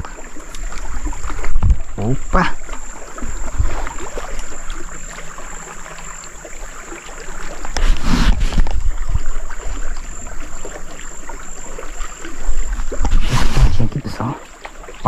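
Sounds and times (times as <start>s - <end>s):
wind rumbling on microphone: 0.0s - 5.8s, 6.7s - 14.2s.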